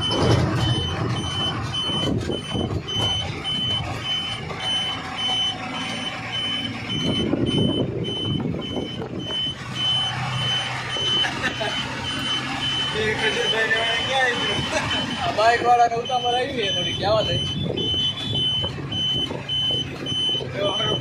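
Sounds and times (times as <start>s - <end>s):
high electronic beeping: 0.0s - 21.0s
truck engine and road rumble: 0.0s - 21.0s.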